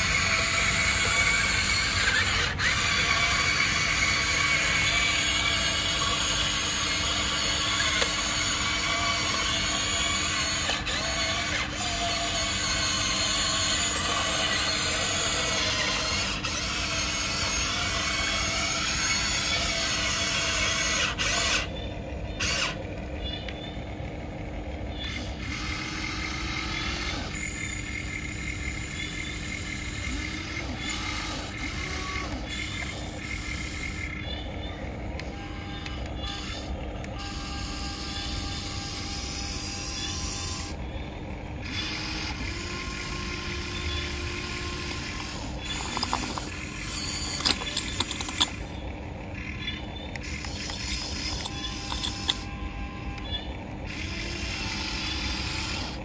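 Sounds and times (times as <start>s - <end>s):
electric motors whining: 0.0s - 56.0s.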